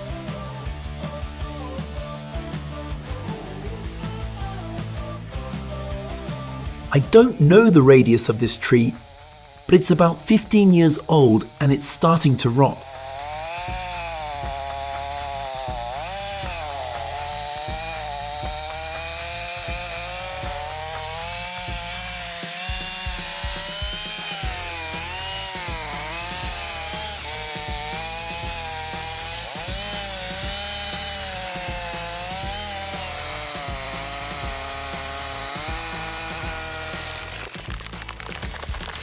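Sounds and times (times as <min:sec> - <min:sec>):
background music: 0:00.0 - 0:39.0
chainsaw cutting wood: 0:00.0 - 0:39.0.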